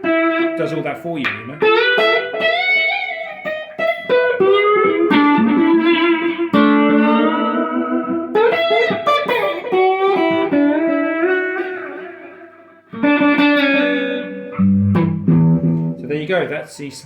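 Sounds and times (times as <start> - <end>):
electric guitar picked notes: 0.0 - 17.0.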